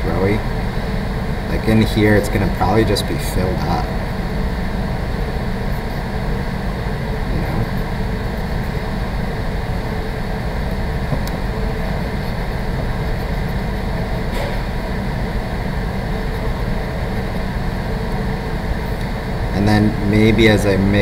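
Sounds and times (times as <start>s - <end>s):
low rumbling machine hum: 0.0s - 21.0s.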